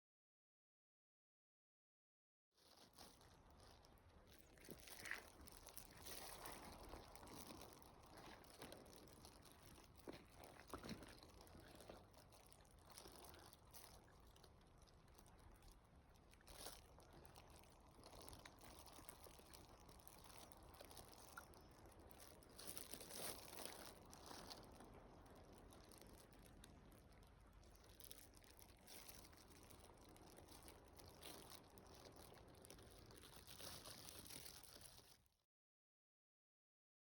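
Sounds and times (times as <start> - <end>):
faint rustles and crunches: 2.6 - 35.3.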